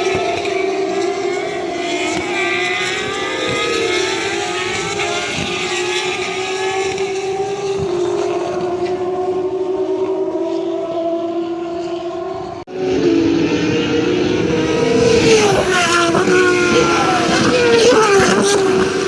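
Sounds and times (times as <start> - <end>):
race car engines at high revs: 0.0 - 19.0.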